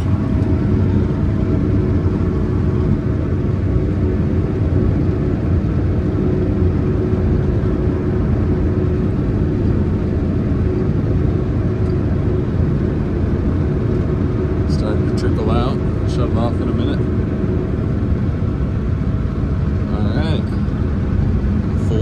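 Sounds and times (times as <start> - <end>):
combine harvester machine hum: 0.0 - 22.0.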